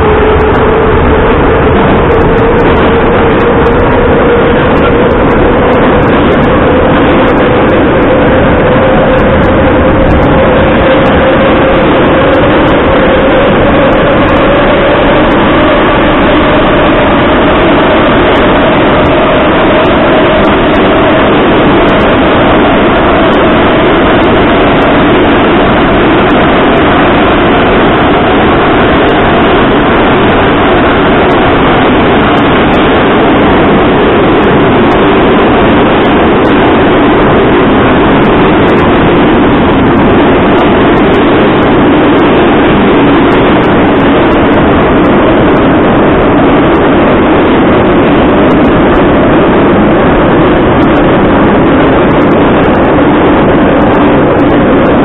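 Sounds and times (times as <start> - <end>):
falling whine: 0.0 - 55.0
train running and rail noise: 0.0 - 55.0.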